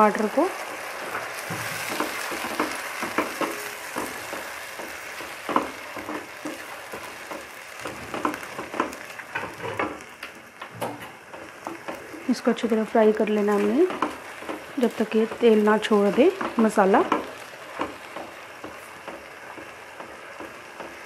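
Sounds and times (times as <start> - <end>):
masala sizzling in oil: 0.0 - 21.0
spatula scraping and knocking pan: 1.0 - 12.8, 13.4 - 21.0.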